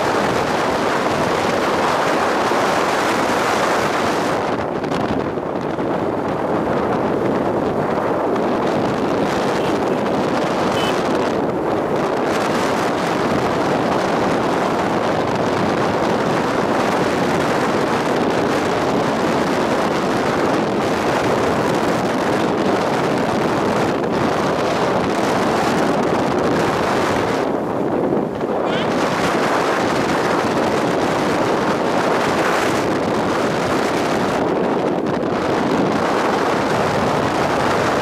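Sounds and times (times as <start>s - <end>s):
motorcycle engine: 0.0s - 38.0s
road noise: 0.0s - 38.0s
wind rush on microphone: 0.0s - 38.0s.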